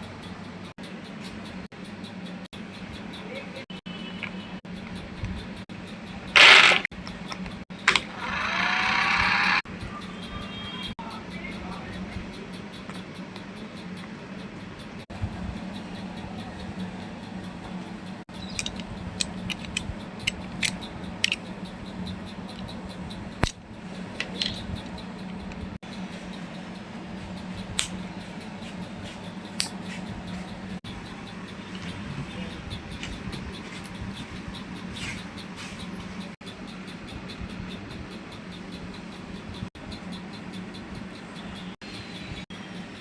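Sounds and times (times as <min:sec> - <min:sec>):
sharp clicks and ticks: 0:00.0 - 0:43.0
toy train motor hum: 0:00.0 - 0:43.0.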